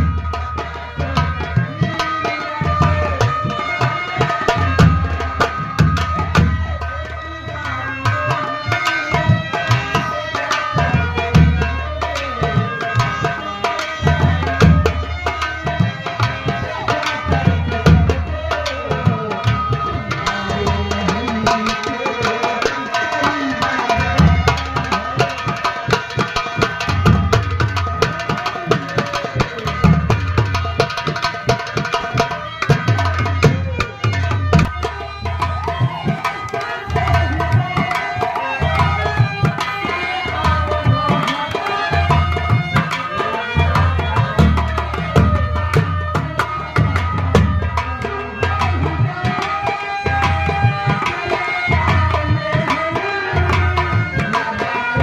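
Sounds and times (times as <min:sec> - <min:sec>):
continuous melody line: 0:00.0 - 0:55.0
rapid hand drumming: 0:00.0 - 0:55.0.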